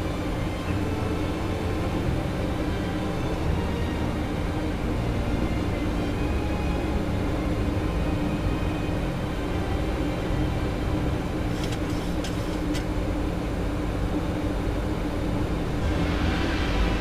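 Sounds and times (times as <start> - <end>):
airliner engine and airflow drone: 0.0 - 17.0.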